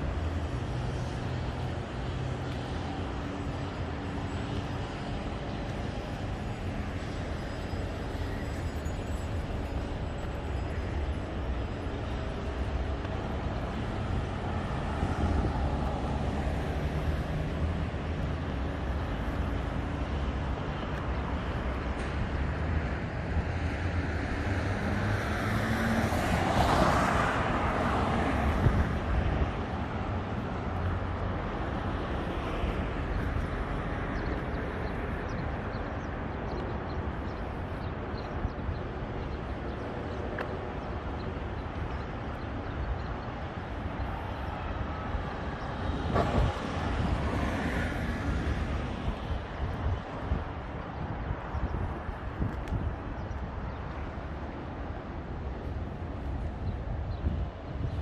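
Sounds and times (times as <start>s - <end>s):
traffic engines rumbling: 0.0s - 58.0s.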